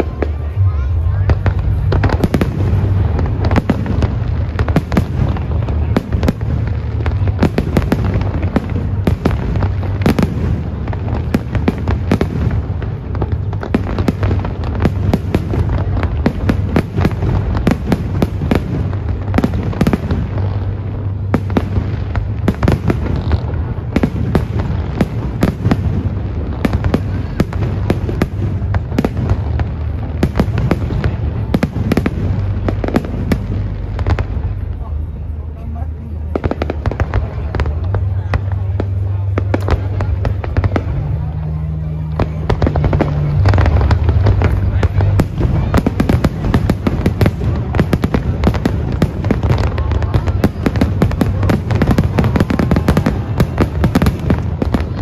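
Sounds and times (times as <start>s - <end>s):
fireworks bangs and crackles: 0.0s - 55.0s
low drone: 0.0s - 55.0s.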